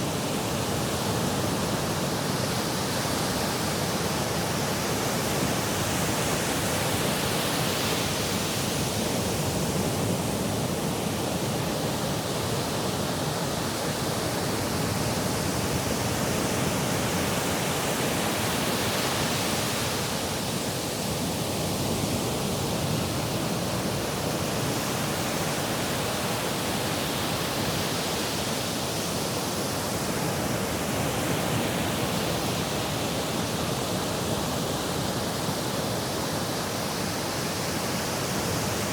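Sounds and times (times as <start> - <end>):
sea surf rushing: 0.0 - 38.9.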